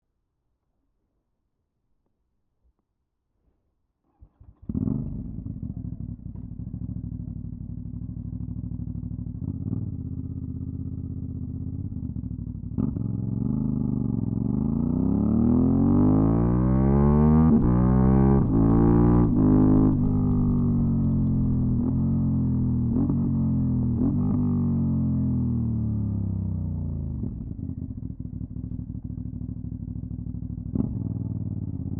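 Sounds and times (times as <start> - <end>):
motorcycle engine starting and idling: 4.1 - 24.5, 25.4 - 31.9.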